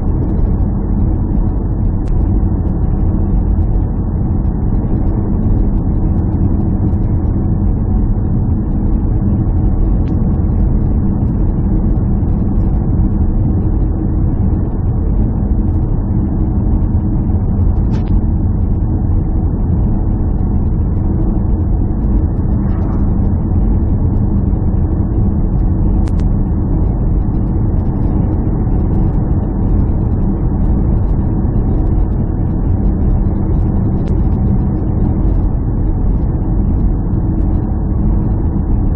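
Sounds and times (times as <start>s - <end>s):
low engine drone: 0.0s - 38.9s.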